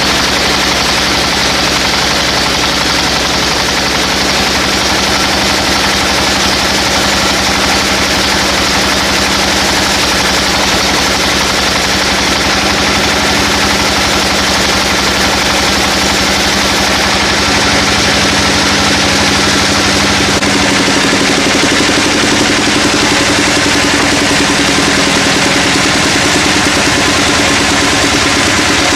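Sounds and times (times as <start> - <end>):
sawmill machinery running: 0.0 - 28.9.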